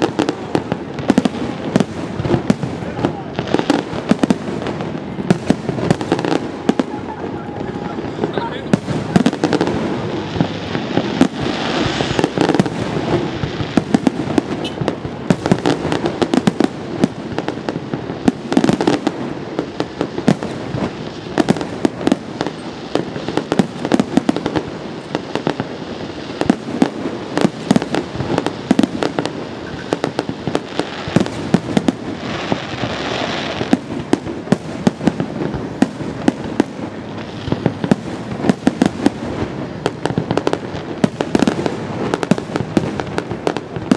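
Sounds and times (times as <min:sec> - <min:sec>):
fireworks bangs and crackles: 0:00.0 - 0:43.9
fireworks hissing crackle: 0:00.0 - 0:43.9.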